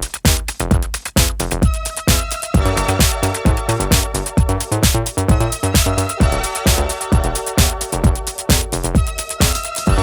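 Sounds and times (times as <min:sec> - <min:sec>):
electronic dance music: 0:00.0 - 0:10.0
kick drum: 0:00.0 - 0:10.0.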